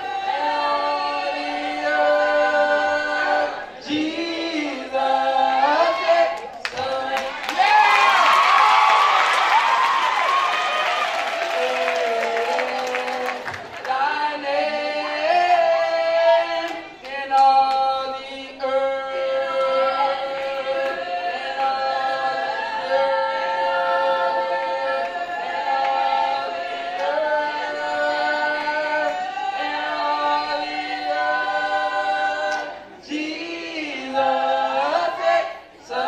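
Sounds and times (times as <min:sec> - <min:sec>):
a cappella group singing: 0:00.0 - 0:08.6, 0:10.9 - 0:36.0.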